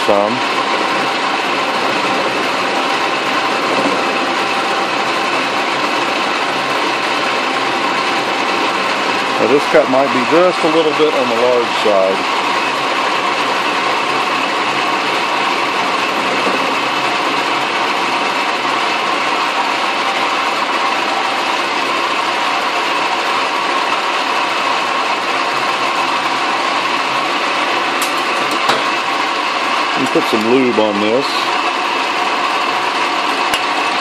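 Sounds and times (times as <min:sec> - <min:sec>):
metal lathe milling metal: 0:00.0 - 0:34.0.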